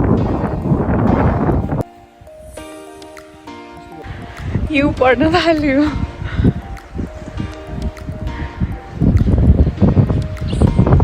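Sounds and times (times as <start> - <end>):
gusty wind on microphone: 0.0 - 2.7, 4.0 - 11.0
music with long held notes: 0.0 - 11.0.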